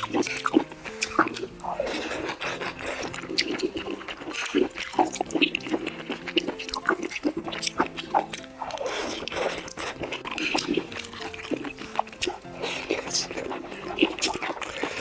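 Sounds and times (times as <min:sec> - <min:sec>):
quiet background music: 0:00.0 - 0:15.0
wet chewing: 0:00.0 - 0:15.0.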